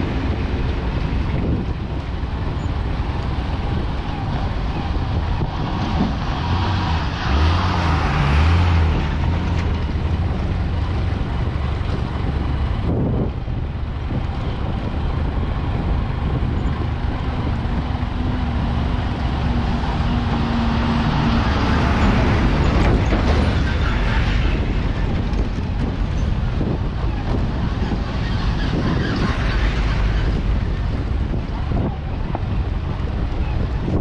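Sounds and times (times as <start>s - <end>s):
road noise on dirt road: 0.0s - 34.0s
vehicle engine drone: 0.0s - 34.0s.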